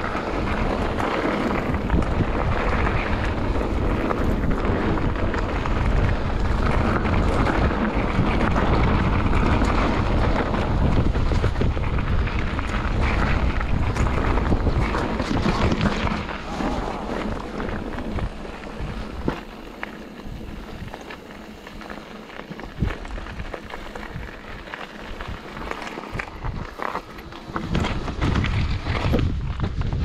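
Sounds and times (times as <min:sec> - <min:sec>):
bike rattling: 0:00.0 - 0:30.0
bike tyres crunching on gravel: 0:00.0 - 0:30.0
wind buffeting microphone: 0:00.0 - 0:30.0.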